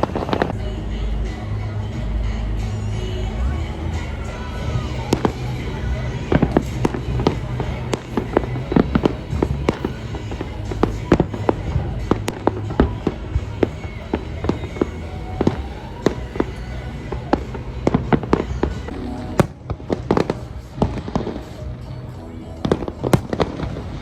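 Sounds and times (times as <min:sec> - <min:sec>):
steady low rumble: 0:00.0 - 0:24.0
fireworks bangs and crackles: 0:03.4 - 0:21.7, 0:22.7 - 0:24.0.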